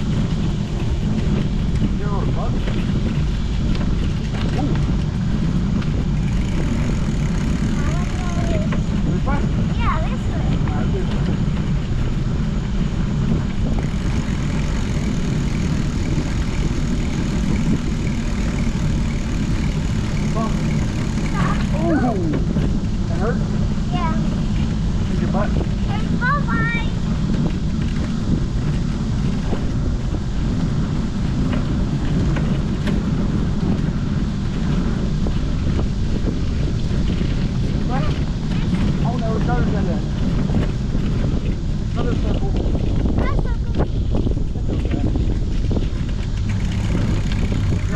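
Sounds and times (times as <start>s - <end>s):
wind rumble on microphone: 0.0s - 47.9s.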